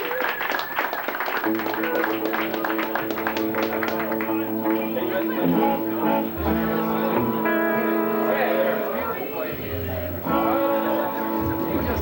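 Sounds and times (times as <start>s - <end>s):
guitar strumming and ringing notes: 1.5s - 12.0s.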